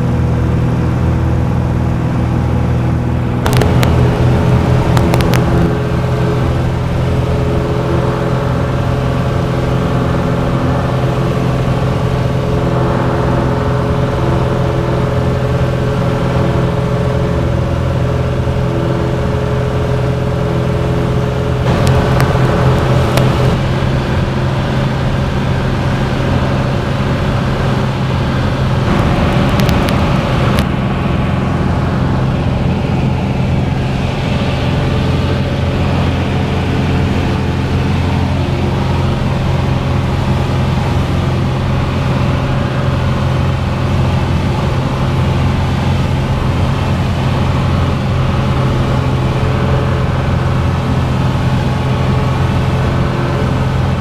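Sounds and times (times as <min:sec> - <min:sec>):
propeller plane engine droning: 0:00.0 - 0:54.0
rushing noise: 0:03.0 - 0:54.0.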